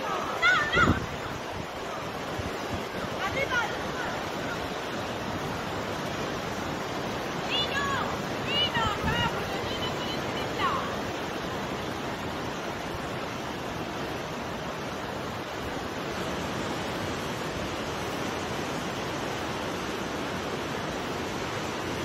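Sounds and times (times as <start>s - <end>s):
strong wind buffeting microphone: 0.0s - 19.7s
rough sea surf: 0.0s - 22.0s.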